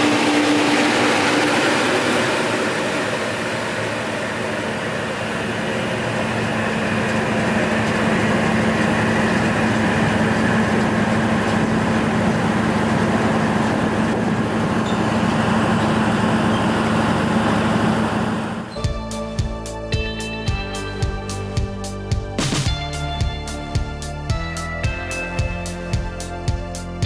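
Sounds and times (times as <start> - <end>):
centrifugal fan running: 0.0 - 27.0.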